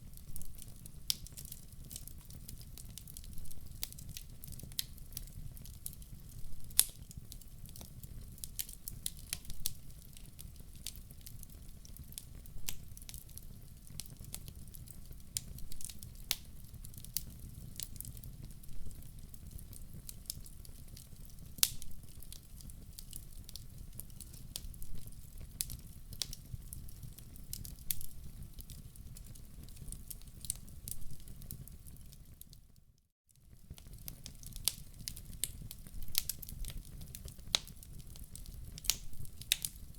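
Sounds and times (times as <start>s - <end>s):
wood fire crackling: 0.0s - 32.8s, 33.4s - 39.9s.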